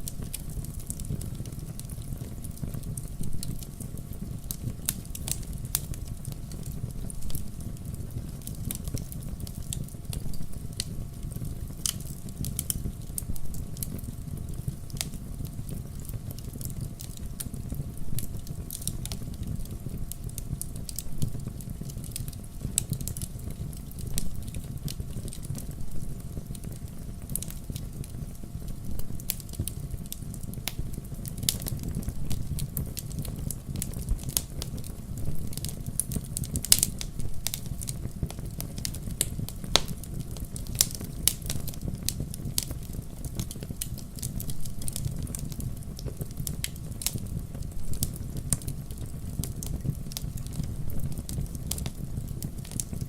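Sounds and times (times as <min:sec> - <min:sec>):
fire crackling and popping: 0:00.0 - 0:53.0
low rumble of flames: 0:00.0 - 0:53.0.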